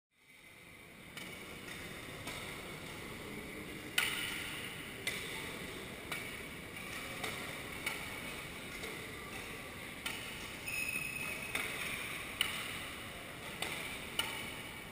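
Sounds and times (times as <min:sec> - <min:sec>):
rackets hitting shuttlecocks: 0:01.1 - 0:03.0, 0:03.8 - 0:10.6, 0:11.2 - 0:14.7.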